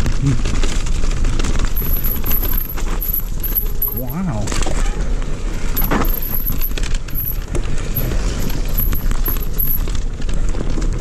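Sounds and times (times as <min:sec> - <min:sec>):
bike rattling and clicking: 0:00.6 - 0:04.8, 0:05.6 - 0:11.0.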